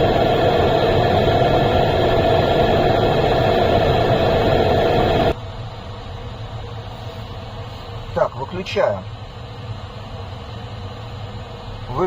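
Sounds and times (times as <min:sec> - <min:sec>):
air heater fan and burner: 0:00.0 - 0:12.0.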